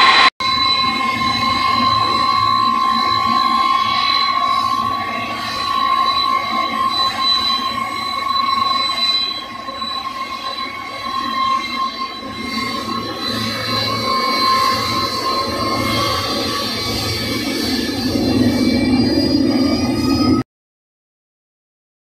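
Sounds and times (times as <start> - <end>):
jet engines high whine: 0.0 - 20.5.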